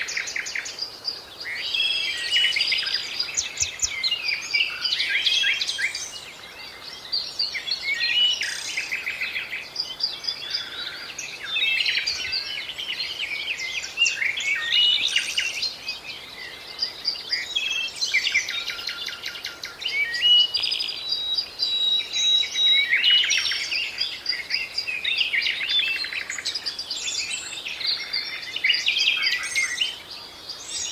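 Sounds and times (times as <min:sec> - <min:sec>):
songbirds singing and calling: 0:00.0 - 0:30.9.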